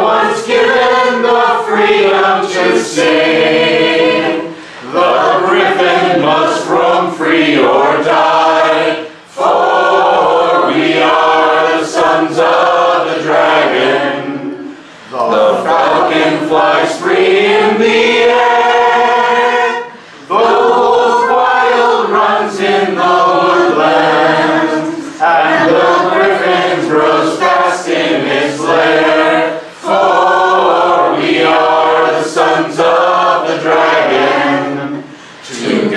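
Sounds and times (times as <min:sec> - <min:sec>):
group singing a cappella: 0:00.0 - 0:35.9.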